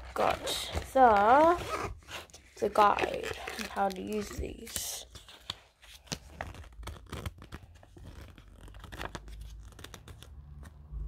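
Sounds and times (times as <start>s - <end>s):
paper pages rustling: 0.0s - 10.9s.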